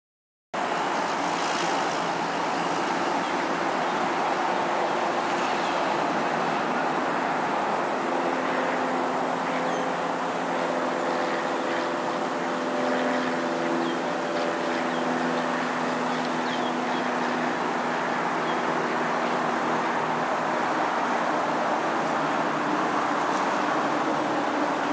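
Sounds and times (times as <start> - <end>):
outdoor vehicle noise: 0.6 - 24.9.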